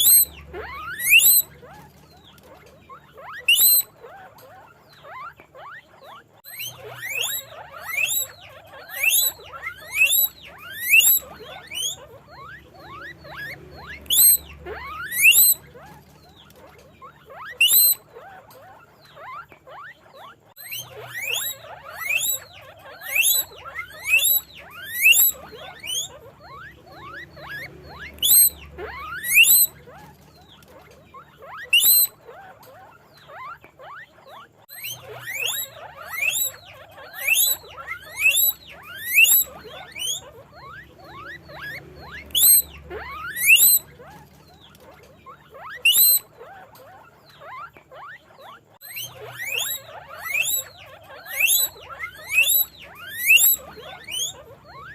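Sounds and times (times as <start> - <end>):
guinea pig squeaking: 0.0 - 54.9.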